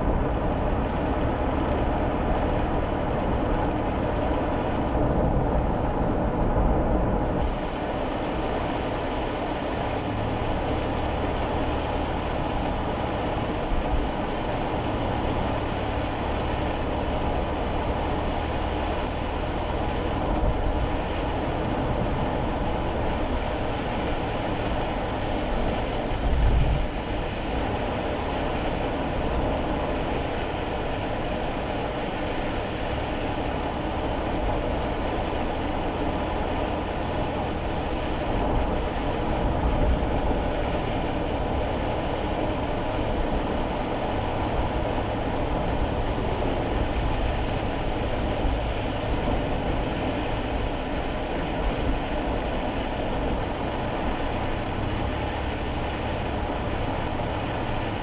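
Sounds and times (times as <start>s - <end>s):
road and tyre noise in car: 0.0s - 58.0s.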